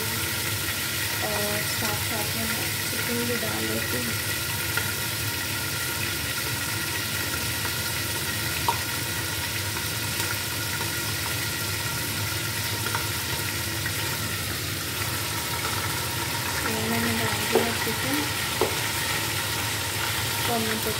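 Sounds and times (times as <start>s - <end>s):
onions sizzling in oil: 0.0s - 20.9s.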